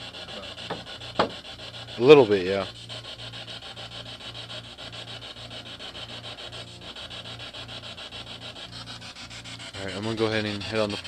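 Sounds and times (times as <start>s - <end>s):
scratchy pulsing crackling: 0.0s - 11.0s.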